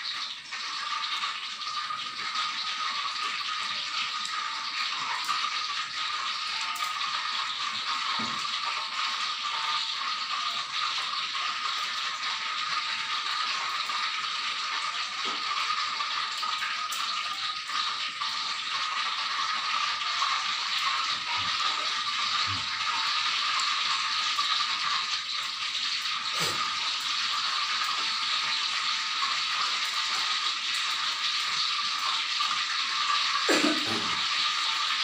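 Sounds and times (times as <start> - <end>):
faint eating sounds: 0.6 - 25.1, 26.2 - 30.3.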